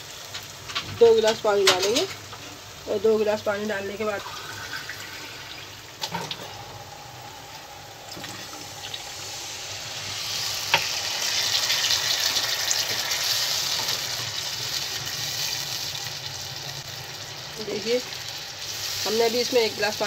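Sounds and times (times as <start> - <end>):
hot oil sizzling: 0.0 - 20.0
water hissing in hot pan: 2.6 - 20.0.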